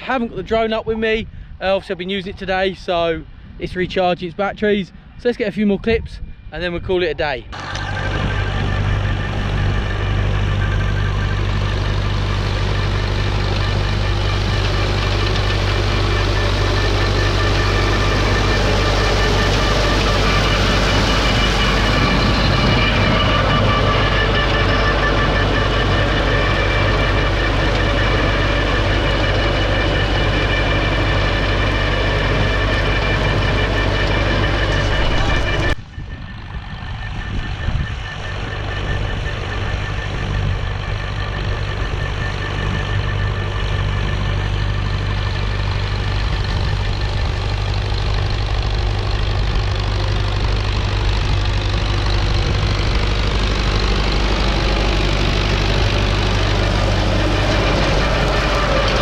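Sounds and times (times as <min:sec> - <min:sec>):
engine running: 0:07.3 - 0:59.0.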